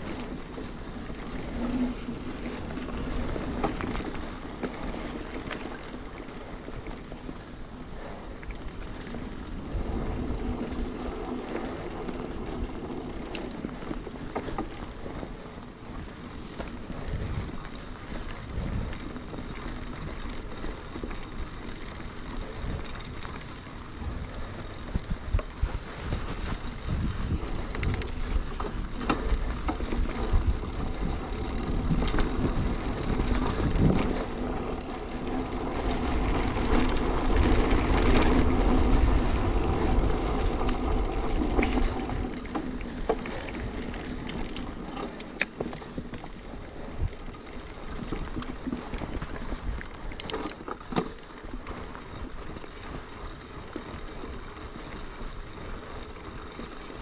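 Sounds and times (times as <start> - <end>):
bike rattling over bumps: 0.0 - 57.0
bike tyres rumbling on dirt: 0.0 - 57.0.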